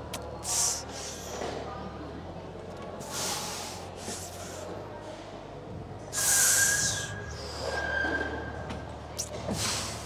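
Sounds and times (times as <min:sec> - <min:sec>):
gym room noise: 0:00.0 - 0:10.0.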